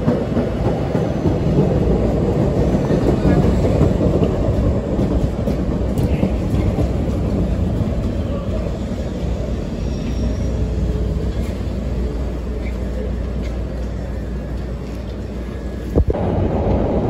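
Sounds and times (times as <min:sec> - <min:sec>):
train rumbling to a stop: 0:00.0 - 0:17.0.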